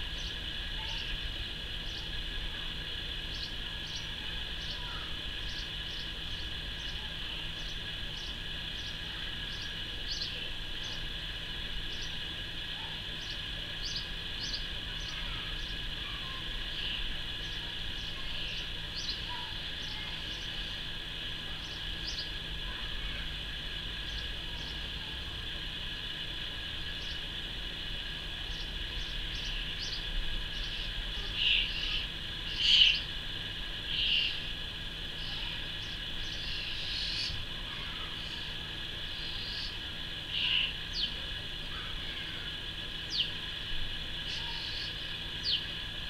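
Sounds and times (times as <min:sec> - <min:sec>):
small birds chirping: 0:00.0 - 0:25.0, 0:26.8 - 0:27.4, 0:28.4 - 0:43.4, 0:44.2 - 0:45.8
high-pitched background hiss: 0:00.0 - 0:46.0.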